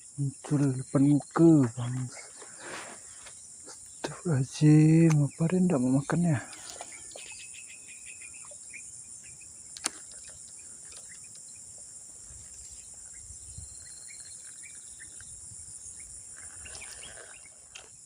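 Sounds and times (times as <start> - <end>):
insects chirping chorus: 0.0 - 18.0.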